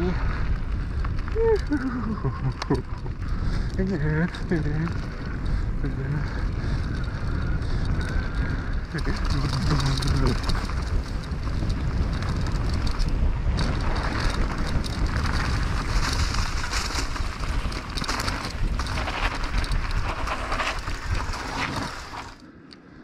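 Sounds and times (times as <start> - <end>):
bike rattling over bumps: 0.0 - 22.4
wind buffeting microphone: 0.0 - 22.4
bike tyres rolling on dirt: 0.0 - 22.7.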